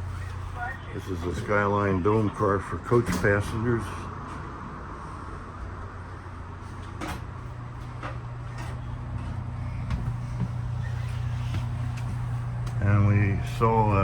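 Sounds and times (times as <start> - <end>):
low hum in rail car: 0.0 - 14.0.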